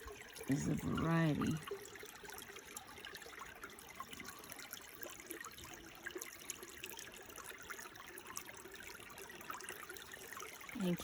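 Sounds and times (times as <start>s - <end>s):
water trickling over rocks: 0.0s - 11.0s.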